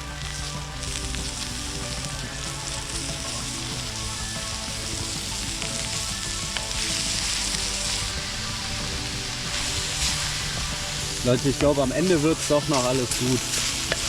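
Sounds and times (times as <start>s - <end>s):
mushrooms and onions sizzling in a pan: 0.0s - 14.0s.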